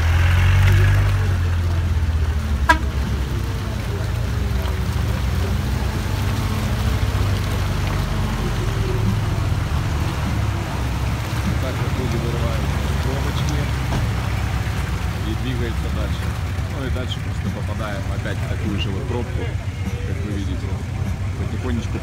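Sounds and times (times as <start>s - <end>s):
vehicle engine low drone: 0.0s - 22.0s.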